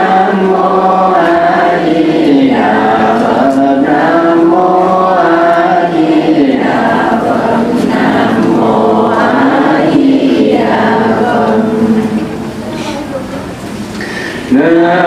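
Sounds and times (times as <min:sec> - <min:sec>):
group chanting in unison: 0:00.0 - 0:12.4.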